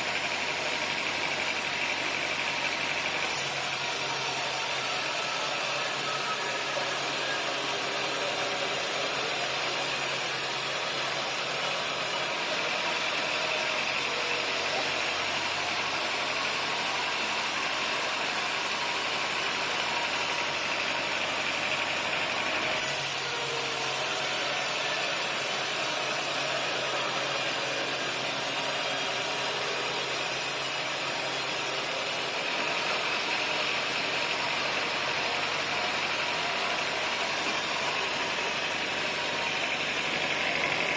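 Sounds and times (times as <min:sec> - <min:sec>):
sawmill machinery engine running: 0:00.0 - 0:40.9.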